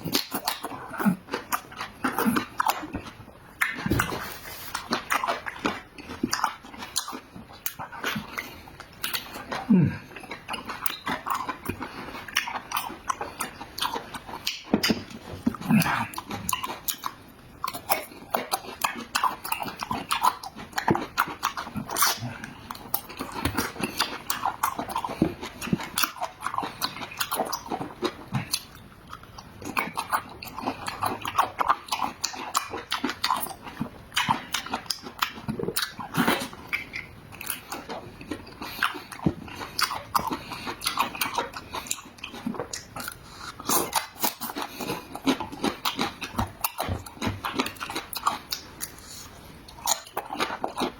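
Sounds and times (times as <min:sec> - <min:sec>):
chewing and lip-smacking: 0:00.0 - 0:50.9.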